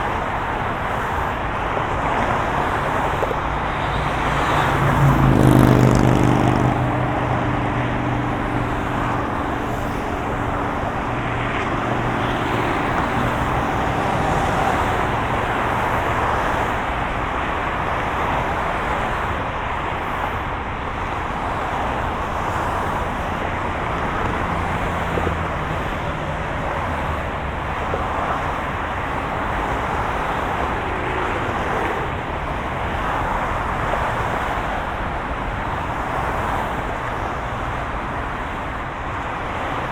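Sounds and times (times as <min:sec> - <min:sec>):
road traffic: 0:00.0 - 0:39.9
vehicle engine: 0:00.0 - 0:39.9.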